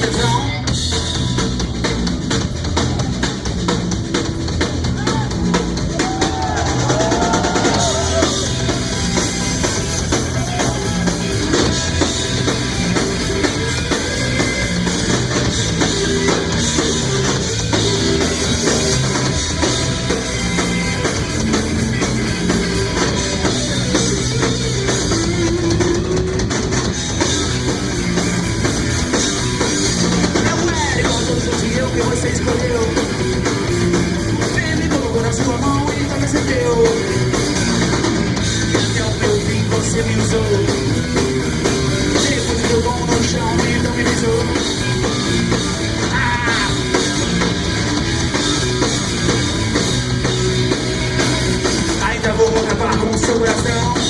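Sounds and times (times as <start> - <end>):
drum kit beat: 0.0 - 54.0
rock band playing: 0.0 - 54.0.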